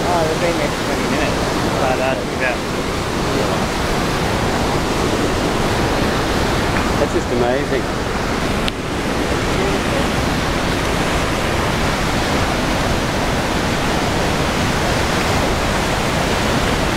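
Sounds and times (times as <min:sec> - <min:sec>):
waterfall rushing over rocks: 0:00.0 - 0:16.9.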